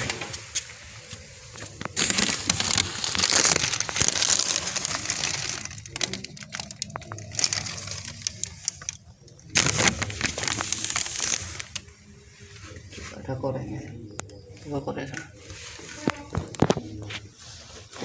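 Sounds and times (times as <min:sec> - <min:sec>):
scattered clicks and crackles: 0:00.0 - 0:12.0, 0:14.1 - 0:15.4, 0:16.0 - 0:17.3
rustling and crinkling objects: 0:00.0 - 0:18.0.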